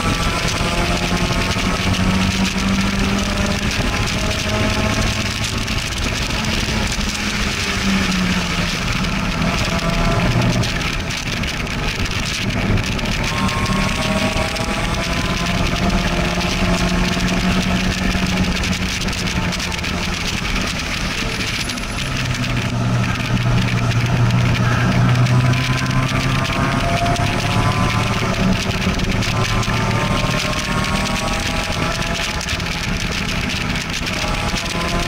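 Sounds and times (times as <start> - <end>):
sports car engine: 0.0 - 35.0
wind noise on microphone: 0.0 - 35.0.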